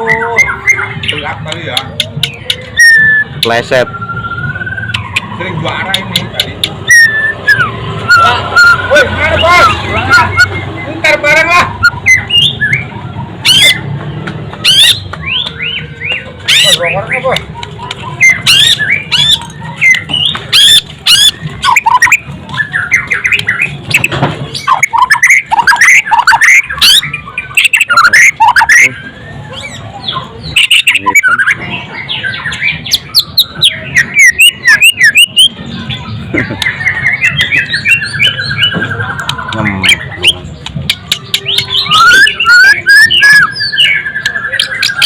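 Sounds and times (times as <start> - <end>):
songbird whistling and trilling: 0.0 - 45.0.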